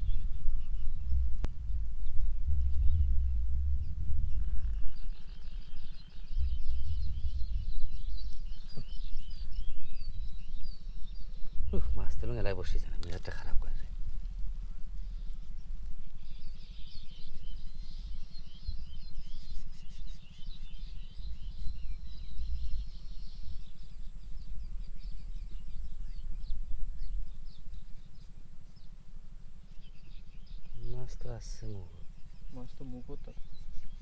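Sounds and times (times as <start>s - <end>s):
wind on microphone: 0.0s - 28.1s
birds chirping and twittering: 0.0s - 34.0s.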